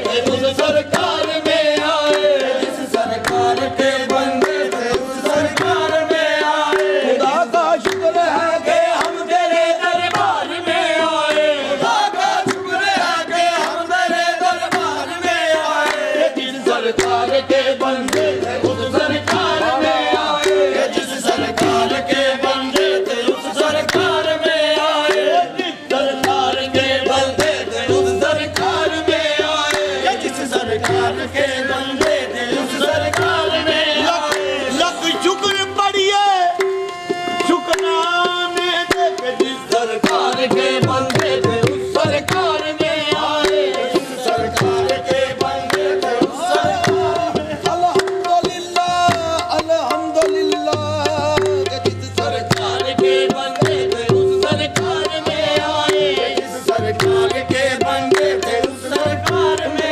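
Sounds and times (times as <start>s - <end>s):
hand drum rhythm: 0.0s - 35.6s, 36.5s - 59.9s
men singing: 0.0s - 59.9s.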